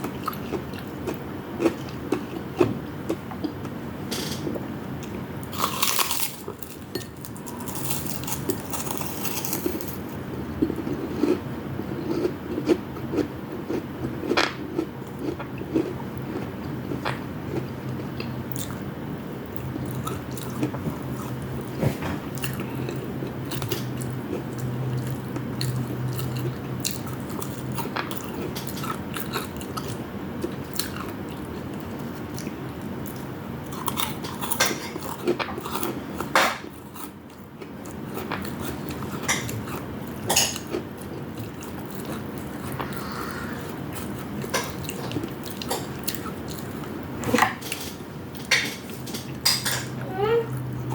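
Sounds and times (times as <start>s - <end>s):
chewing crunchy fried food: 0.0s - 3.8s, 5.0s - 18.9s, 19.5s - 49.4s.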